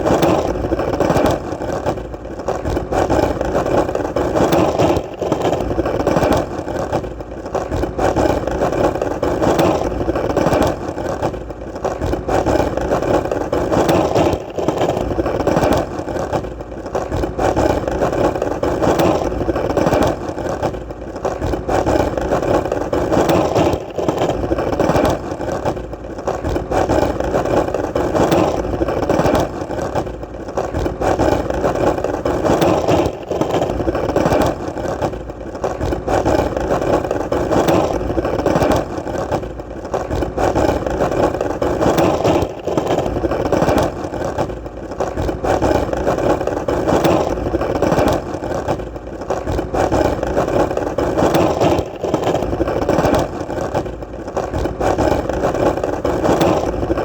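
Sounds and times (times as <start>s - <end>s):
skateboard clicks: 0.0s - 57.0s
skateboard wheels rolling: 0.0s - 57.0s.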